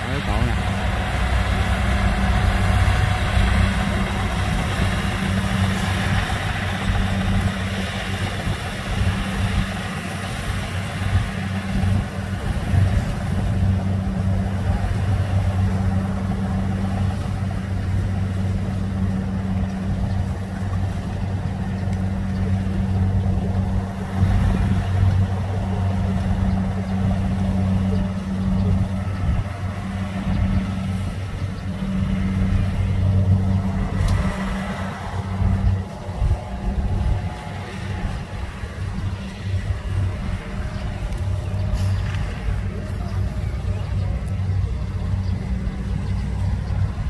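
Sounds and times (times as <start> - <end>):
harvester engines droning: 0.0 - 47.0.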